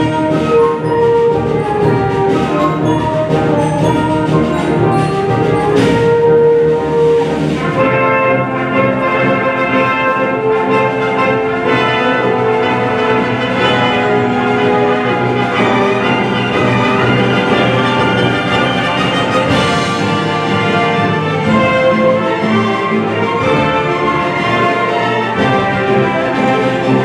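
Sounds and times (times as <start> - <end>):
brass held chords: 0.0 - 27.0
symphony orchestra playing: 0.0 - 27.0.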